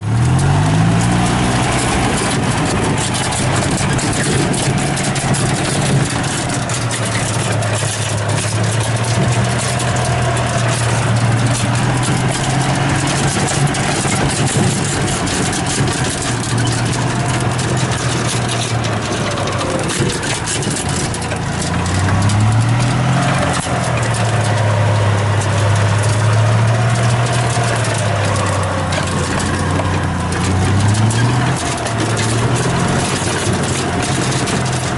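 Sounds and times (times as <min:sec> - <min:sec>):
constant crackling noise: 0:00.0 - 0:34.9
engine running: 0:00.0 - 0:34.9.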